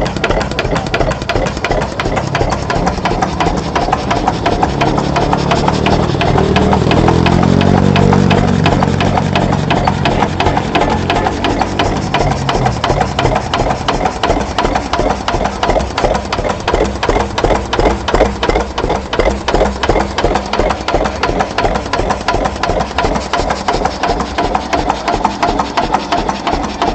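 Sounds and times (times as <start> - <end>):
tractor engine idling: 0.0 - 26.9.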